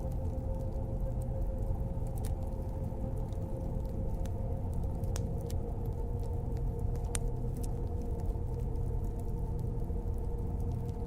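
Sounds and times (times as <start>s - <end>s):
fire crackles: 0.0s - 11.0s
fire low rumble: 0.0s - 11.0s.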